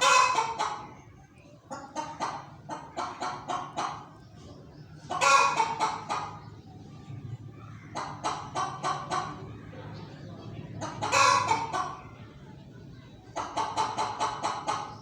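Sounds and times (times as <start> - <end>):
hen clucking: 0.0 - 6.8, 7.6 - 12.3, 13.0 - 15.0.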